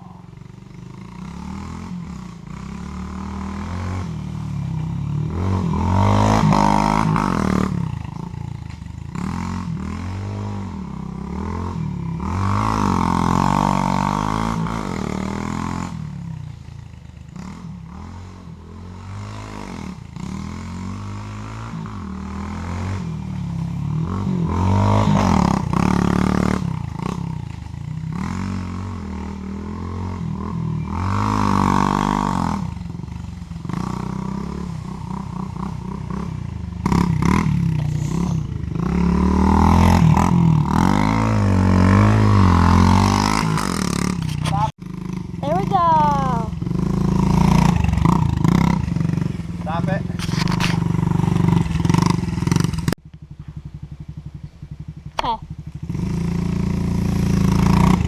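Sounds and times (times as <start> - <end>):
pit bike engine revving: 0.0 - 58.0.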